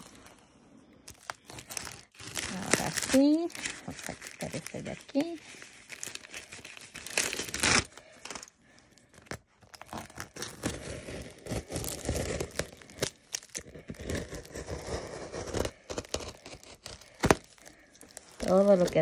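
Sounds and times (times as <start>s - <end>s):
plastic wrapping crinkling and ripping: 0.0s - 19.0s.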